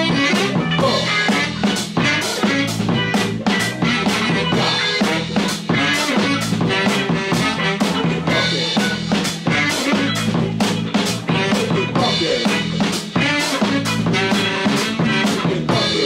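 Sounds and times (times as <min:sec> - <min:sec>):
loud music with drums and bass: 0:00.0 - 0:16.0.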